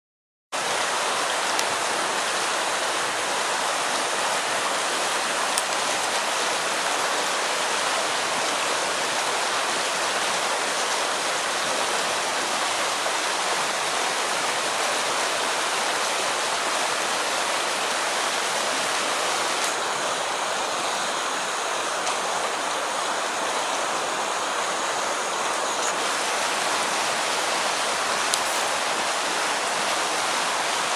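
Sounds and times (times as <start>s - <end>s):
waterfall and creek rushing: 0.6s - 30.9s.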